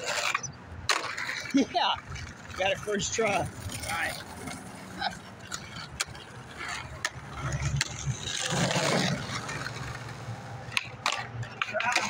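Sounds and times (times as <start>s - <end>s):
loud scraping rush: 0.0s - 1.7s, 2.5s - 11.8s
skateboard clacks: 0.0s - 12.0s
skateboard rolling on pavement: 0.0s - 12.0s.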